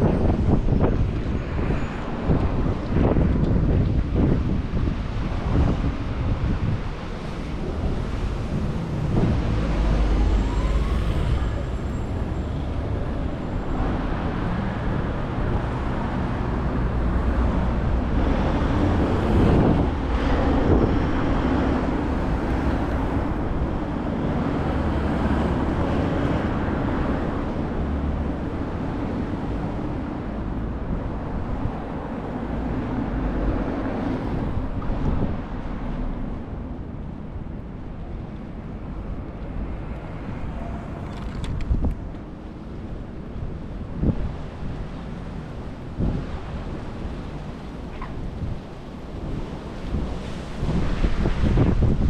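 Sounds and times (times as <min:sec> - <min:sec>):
road traffic passing: 0:00.0 - 0:52.0
wind buffeting microphone: 0:00.0 - 0:52.0.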